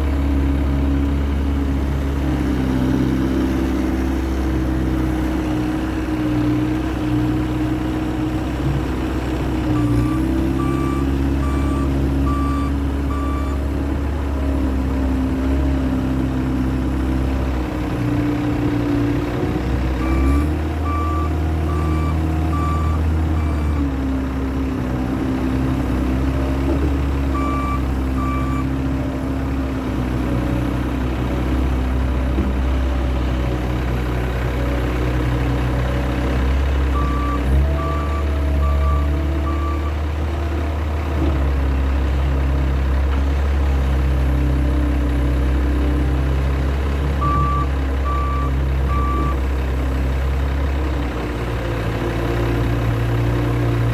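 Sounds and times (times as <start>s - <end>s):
diesel engine under load: 0.0s - 53.9s.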